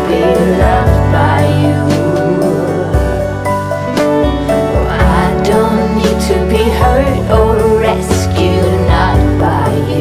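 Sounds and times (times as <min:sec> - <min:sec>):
background pop music: 0:00.0 - 0:10.0.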